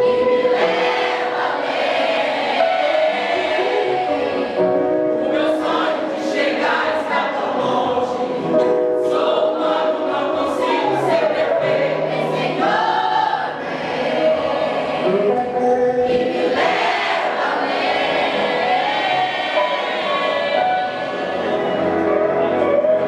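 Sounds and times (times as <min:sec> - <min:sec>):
vocal group singing gospel: 0:00.0 - 0:15.3, 0:16.0 - 0:21.9.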